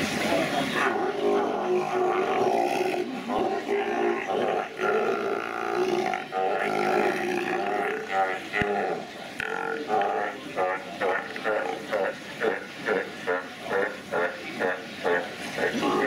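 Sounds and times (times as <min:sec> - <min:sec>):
sea lions calling: 0:00.6 - 0:16.0.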